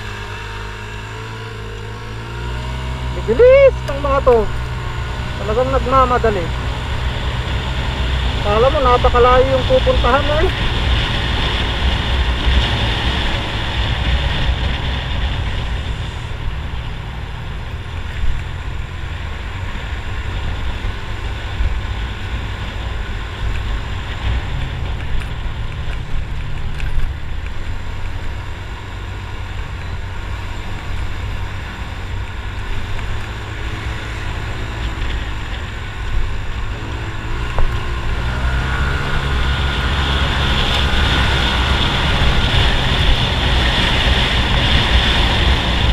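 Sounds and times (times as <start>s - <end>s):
scooter engine running: 0.0s - 45.9s
wind rushing over microphone: 0.0s - 45.9s.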